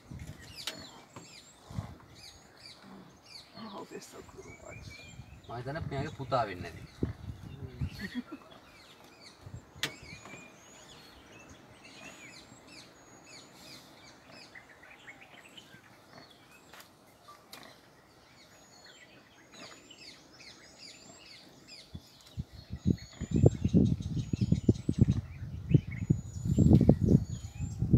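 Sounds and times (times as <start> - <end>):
birds chirping and whistling: 0.0 - 27.9.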